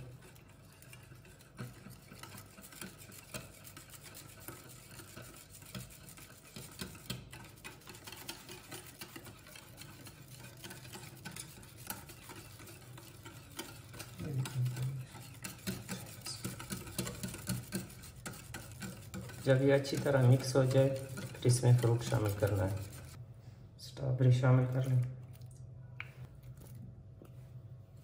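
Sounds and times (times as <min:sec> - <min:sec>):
whisk wires ticking against bowl: 0:00.0 - 0:23.2
wire whisk swishing in bowl: 0:00.0 - 0:23.2.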